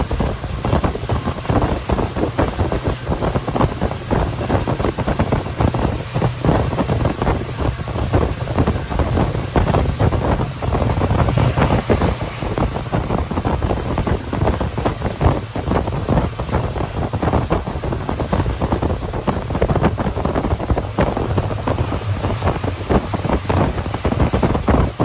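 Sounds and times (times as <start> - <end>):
train wheels rumbling on rails: 0.0 - 25.0
wind rushing over microphone: 0.0 - 25.0.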